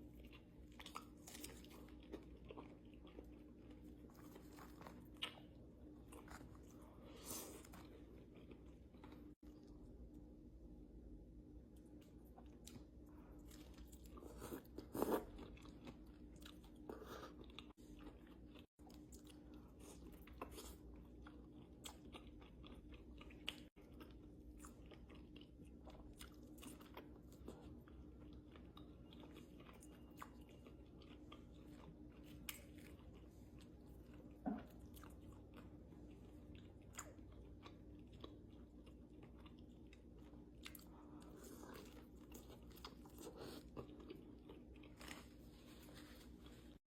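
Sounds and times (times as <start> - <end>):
chewing crunchy food: 0.0 - 9.9, 11.7 - 46.8
low steady hum: 0.0 - 46.8.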